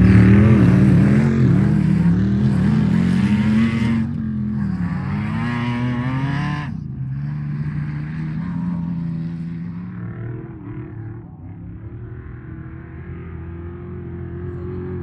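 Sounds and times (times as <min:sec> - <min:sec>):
race vehicle engine running hard: 0:00.0 - 0:15.0.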